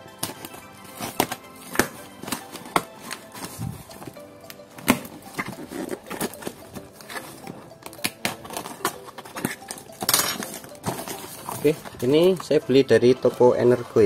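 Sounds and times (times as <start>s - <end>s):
packing tape being slit: 0.0s - 12.3s
cardboard flaps rustling: 0.2s - 12.6s.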